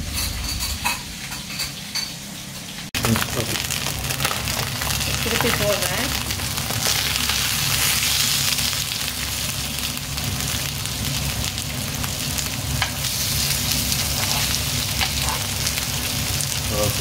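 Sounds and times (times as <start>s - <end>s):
fish sizzling in frying pan: 3.0s - 17.0s.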